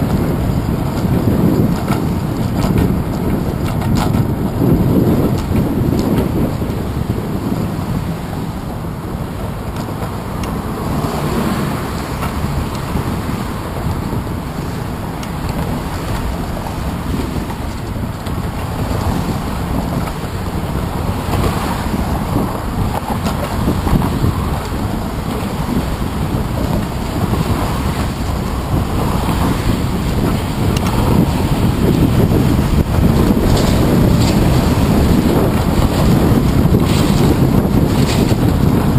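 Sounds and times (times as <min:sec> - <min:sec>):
car traffic: 0:00.0 - 0:38.9
wind rumble on microphone: 0:00.0 - 0:38.9.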